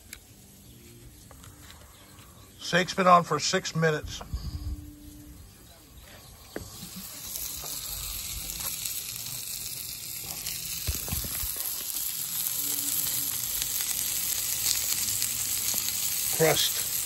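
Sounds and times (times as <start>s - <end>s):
steak sizzling on a grill: 0.0s - 17.0s.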